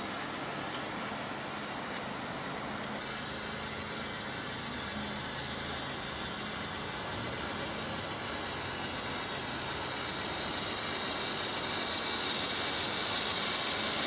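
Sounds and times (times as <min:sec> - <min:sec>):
model locomotive humming: 0:00.0 - 0:14.0
outdoor background noise: 0:00.0 - 0:14.0.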